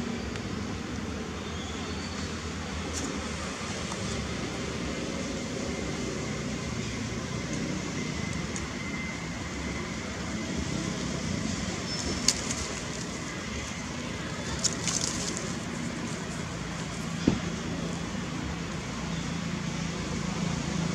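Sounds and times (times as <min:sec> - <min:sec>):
outdoor background rumble: 0:00.0 - 0:20.9.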